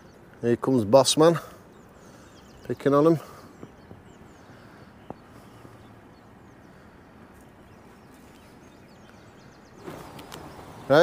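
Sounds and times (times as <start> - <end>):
small birds chirping: 0.0 - 11.0
steady low hiss: 0.0 - 11.0.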